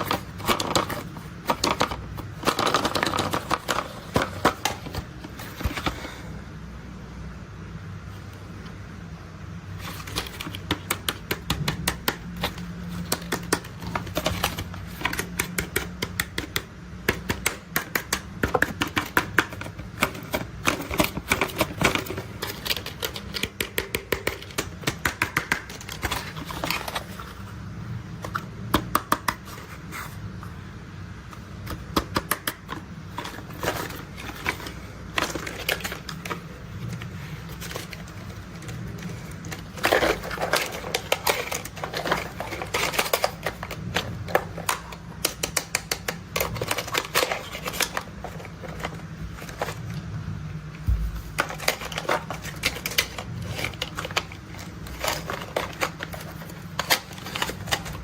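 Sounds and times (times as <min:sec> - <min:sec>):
plastic toy parts clicking and rattling: 0:00.0 - 0:06.0, 0:09.8 - 0:27.4, 0:31.6 - 0:49.9, 0:50.9 - 0:58.0
low steady hum: 0:00.0 - 0:58.0.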